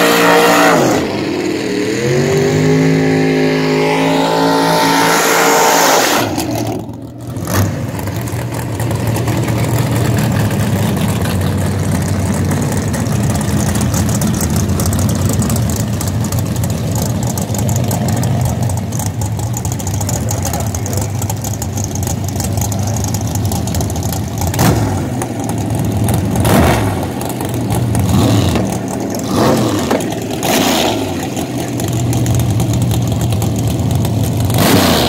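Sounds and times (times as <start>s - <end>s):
race car engine revving: 0.0s - 35.0s
race engine idling rough: 0.0s - 35.0s.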